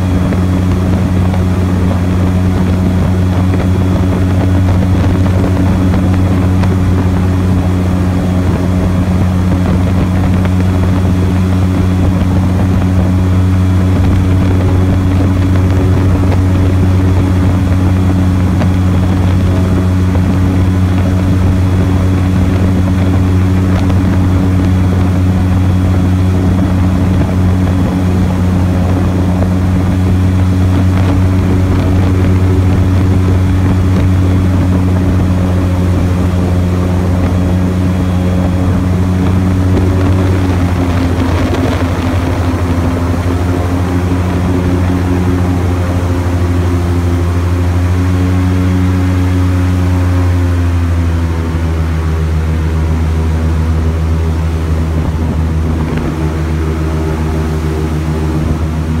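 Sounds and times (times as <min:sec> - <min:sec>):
airboat engine and propeller: 0:00.0 - 0:59.0.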